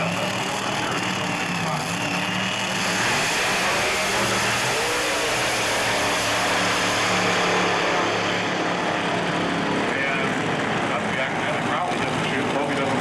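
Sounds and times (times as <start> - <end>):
dragster engines roaring: 0.0 - 13.0.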